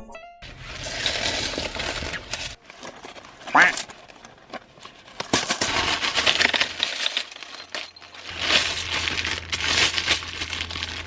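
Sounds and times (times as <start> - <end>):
coins clattering: 0.5 - 11.0.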